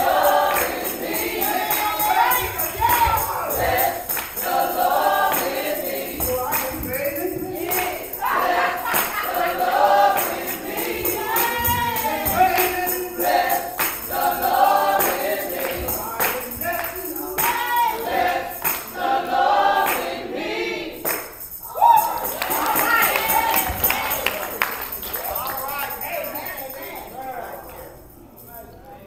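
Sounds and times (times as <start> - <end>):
hand claps: 0.0 - 9.5, 10.1 - 17.9, 18.6 - 19.0, 19.8 - 20.2, 21.0 - 26.9
women's choir singing: 0.0 - 27.5
jingling percussion: 0.0 - 28.8.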